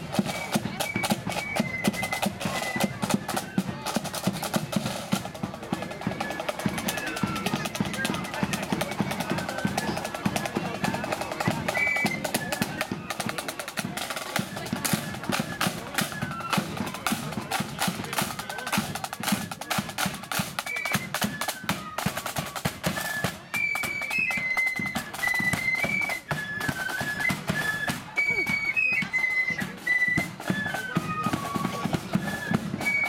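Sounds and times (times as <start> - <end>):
flute melody: 0.0 - 33.0.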